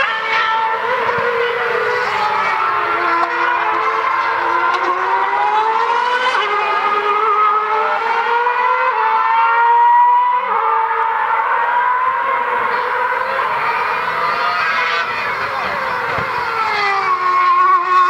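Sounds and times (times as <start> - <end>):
racing car engine: 0.0 - 18.0.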